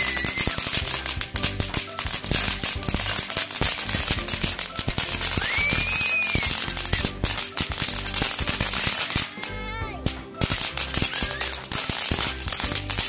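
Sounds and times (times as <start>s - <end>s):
firework whistle: 0.0s - 9.6s, 10.5s - 13.0s
background music with low notes: 0.0s - 13.0s
fireworks crackling: 0.0s - 13.0s.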